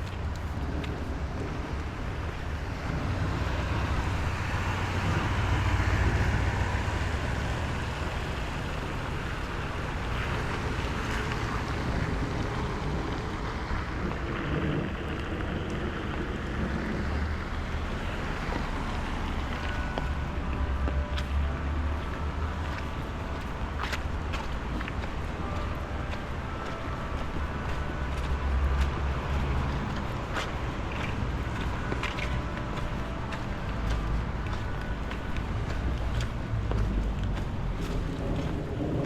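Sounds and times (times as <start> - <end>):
wet traffic: 0.0 - 39.0
wind rumble on microphone: 0.0 - 39.0.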